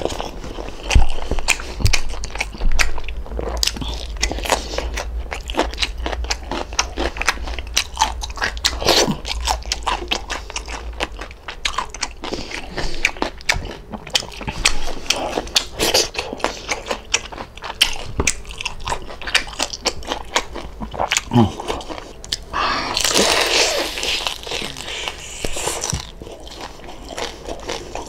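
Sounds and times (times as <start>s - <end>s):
crunchy chewing of fried pork: 0.0s - 28.0s.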